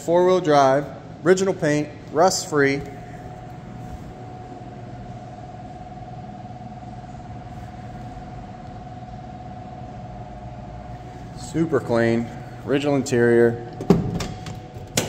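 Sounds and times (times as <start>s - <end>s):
high-pitched whine: 0.0s - 13.8s
room hum: 0.0s - 15.0s.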